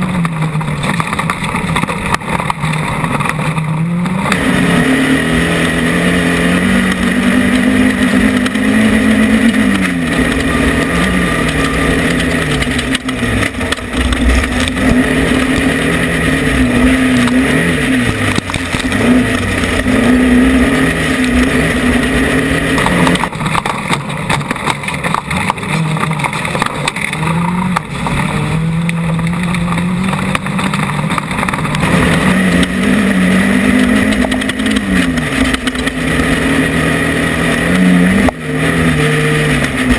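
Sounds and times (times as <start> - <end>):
race vehicle engine revving: 0.0 - 39.9.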